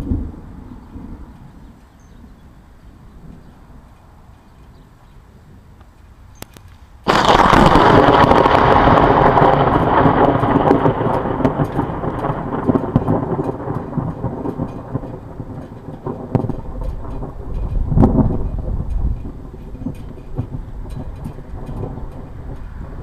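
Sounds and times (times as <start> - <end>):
thunder crack and rumble: 0.0 - 4.3, 7.0 - 23.0.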